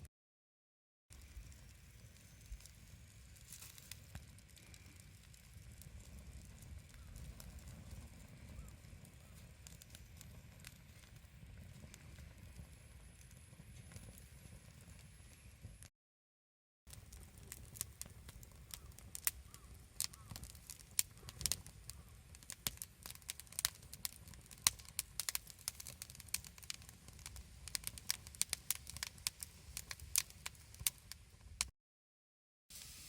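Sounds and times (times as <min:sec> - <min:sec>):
campfire crackling and popping: 0:01.1 - 0:15.9, 0:16.9 - 0:31.7.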